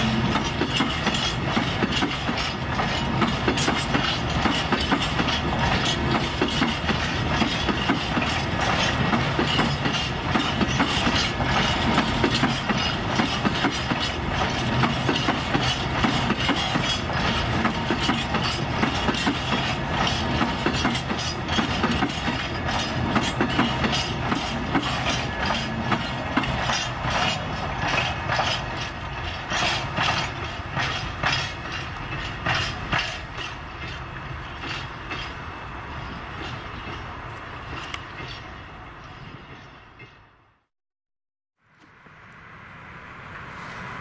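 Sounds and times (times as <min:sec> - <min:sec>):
wheels clicking over rail joints: 0:00.0 - 0:35.4, 0:36.0 - 0:38.5.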